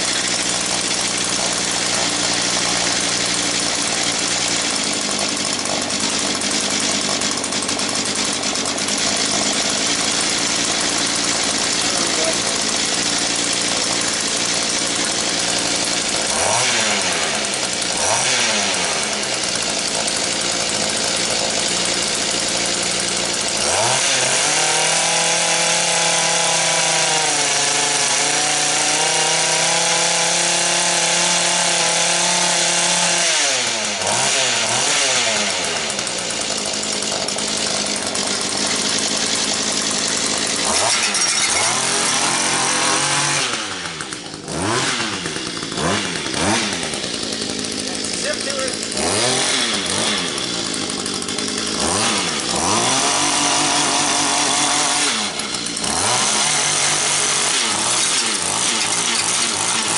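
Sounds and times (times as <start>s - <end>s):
rototiller engine revving: 0.0s - 59.9s.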